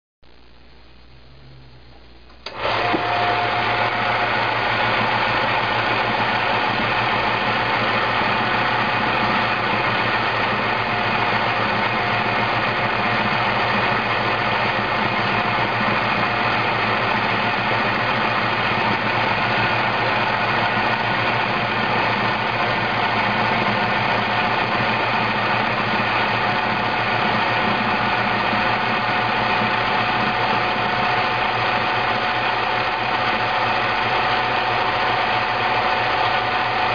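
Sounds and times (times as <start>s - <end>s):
milk frother motor whisking: 2.4s - 36.9s.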